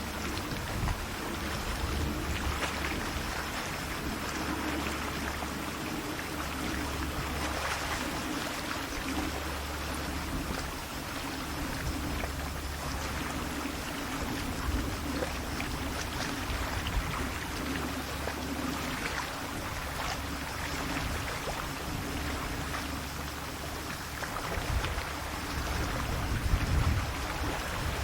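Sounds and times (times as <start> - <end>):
sea waves washing gently: 0.0 - 28.0
steady low rumble: 0.0 - 28.0.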